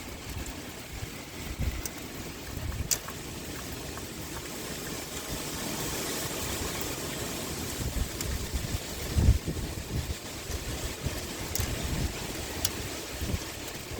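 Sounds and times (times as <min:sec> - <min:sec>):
pouring rain: 0:00.0 - 0:13.9
wind gusts rumbling: 0:00.0 - 0:13.9.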